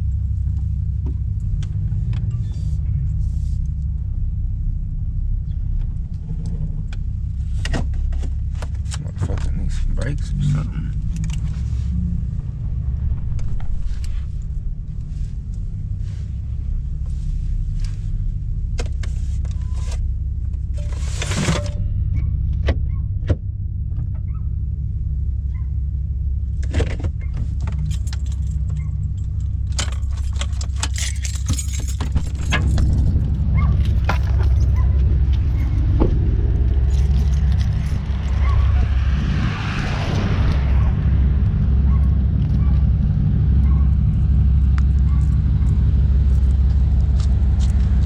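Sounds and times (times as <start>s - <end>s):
vehicle engine low rumble: 0.0s - 48.0s.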